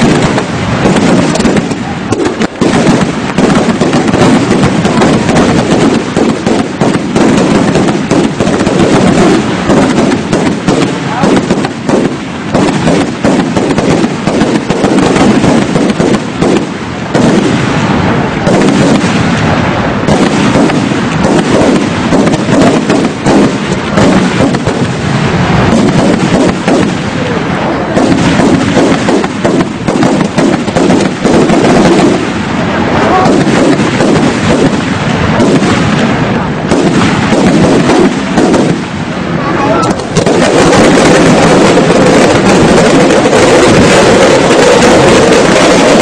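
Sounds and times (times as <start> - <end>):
fireworks bangs and crackles: 0.0 - 46.0.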